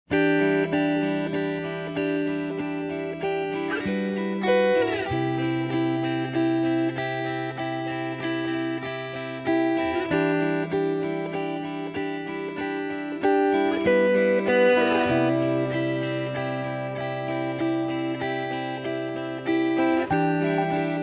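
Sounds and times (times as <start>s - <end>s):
guitar picking notes: 0.1s - 21.0s.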